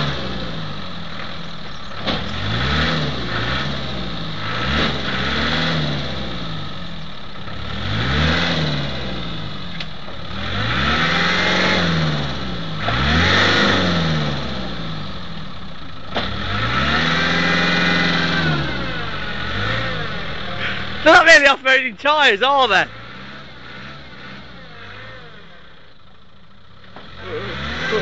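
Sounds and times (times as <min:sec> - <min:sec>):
engine revving: 0:00.0 - 0:25.9, 0:26.6 - 0:28.0.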